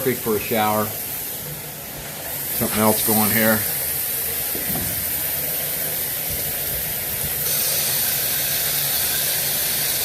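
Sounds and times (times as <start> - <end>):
hot water rushing from plumbing: 0.0 - 10.0.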